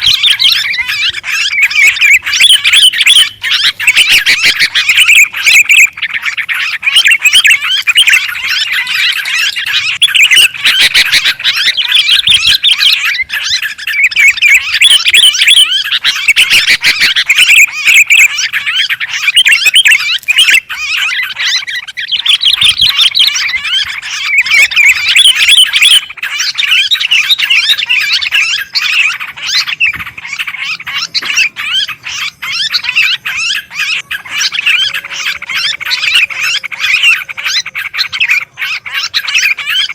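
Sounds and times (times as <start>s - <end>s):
bulbuls chattering chorus: 0.0s - 39.9s.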